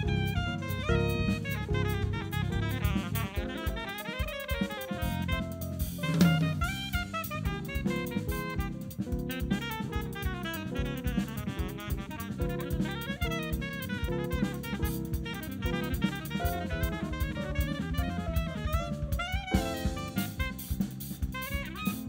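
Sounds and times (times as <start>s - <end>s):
drum kit: 0.0s - 22.0s
electric bass: 0.0s - 22.0s
keyboard: 0.0s - 22.0s
saxophone melody: 0.0s - 22.0s.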